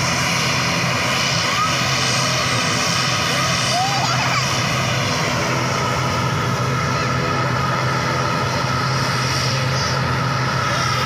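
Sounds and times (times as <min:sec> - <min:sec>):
high engine whine: 0:00.0 - 0:11.0
turboprop engines running: 0:00.0 - 0:11.0.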